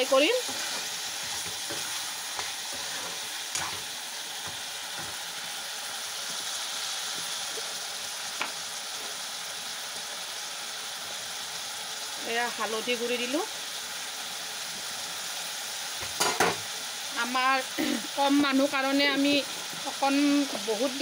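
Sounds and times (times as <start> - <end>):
meat sizzling in hot oil: 0.0 - 21.0.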